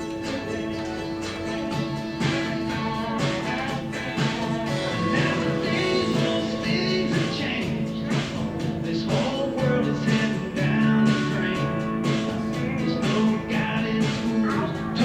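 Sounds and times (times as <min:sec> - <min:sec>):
country song with guitar: 0:00.0 - 0:15.0.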